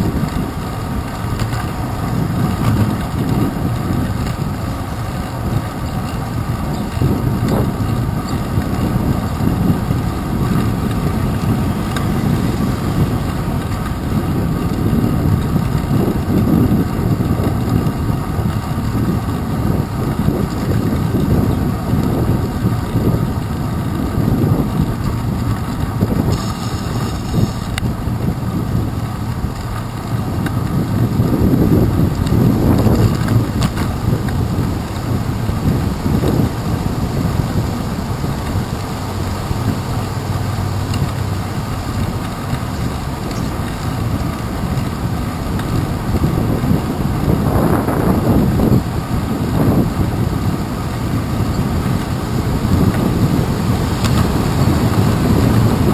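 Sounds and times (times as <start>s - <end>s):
bicycle on wet pavement: 0.0s - 55.9s
wind buffeting camera: 0.0s - 55.9s.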